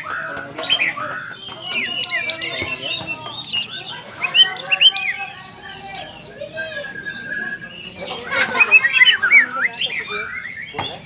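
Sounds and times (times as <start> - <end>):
bird whistling and chirping song: 0.1 - 11.0.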